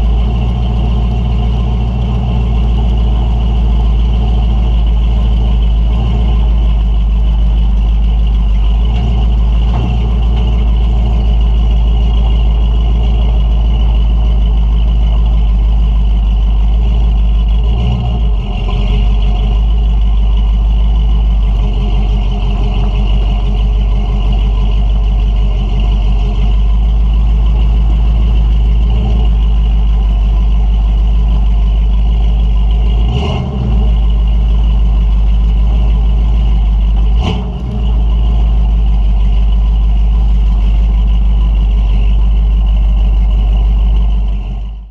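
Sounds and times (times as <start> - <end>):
deep truck exhaust rumble: 0.0 - 44.9.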